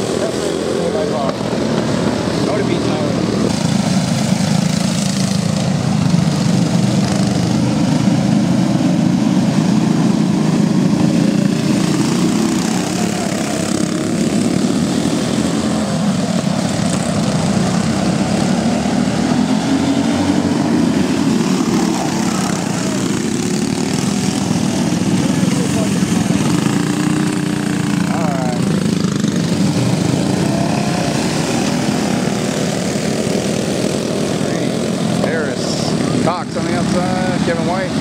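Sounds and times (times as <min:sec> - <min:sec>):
go-kart engines droning: 0:00.0 - 0:38.0.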